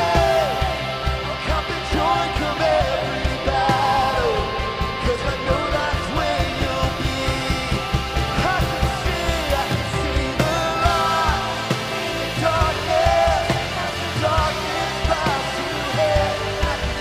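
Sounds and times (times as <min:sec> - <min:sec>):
drum beat: 0:00.0 - 0:17.0
person singing: 0:00.0 - 0:17.0
worship band playing: 0:00.0 - 0:17.0.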